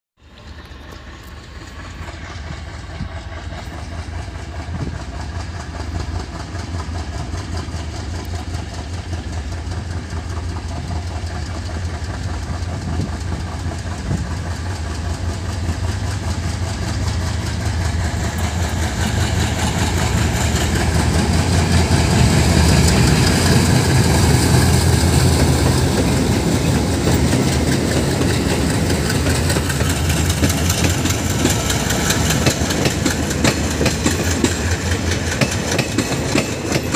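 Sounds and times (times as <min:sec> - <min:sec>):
diesel locomotives chugging: 0:00.2 - 0:36.9.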